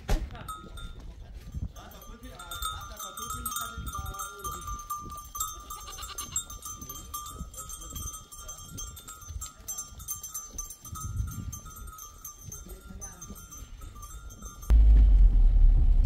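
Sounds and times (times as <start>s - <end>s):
livestock bells ringing: 0.4s - 14.7s.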